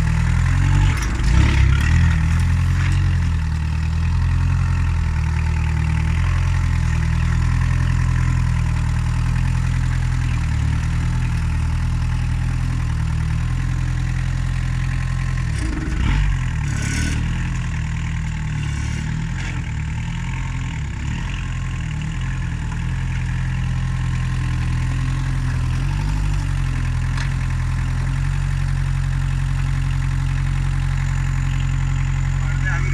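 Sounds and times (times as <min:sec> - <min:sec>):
diesel engine idling: 0:00.0 - 0:16.7, 0:17.4 - 0:32.9.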